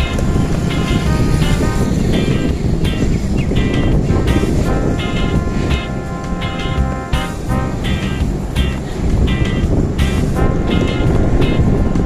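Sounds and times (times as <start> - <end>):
background music with repeated notes: 0.0 - 12.0
wind buffeting microphone: 0.0 - 12.0.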